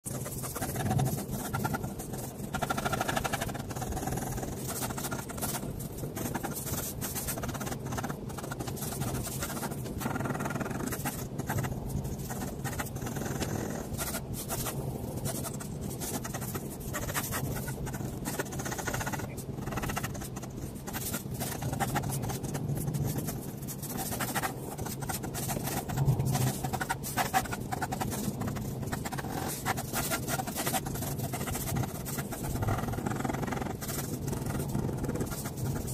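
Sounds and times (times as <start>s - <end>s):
pen scratching on paper: 0.0s - 35.9s.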